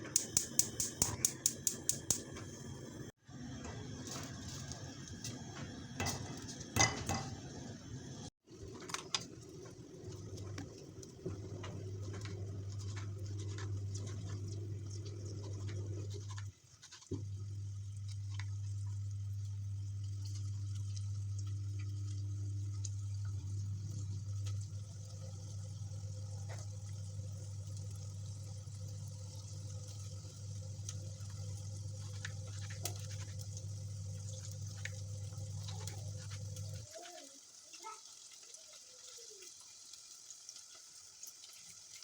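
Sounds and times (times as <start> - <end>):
kitchen appliance humming: 0.0 - 37.3.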